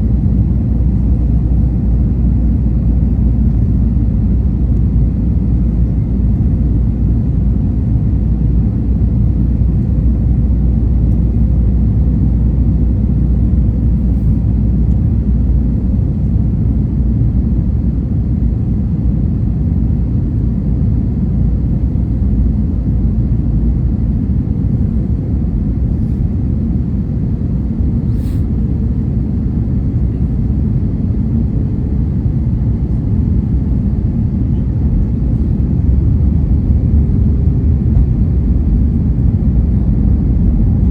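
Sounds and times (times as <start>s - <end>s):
airliner engines rumbling: 0.0s - 40.9s.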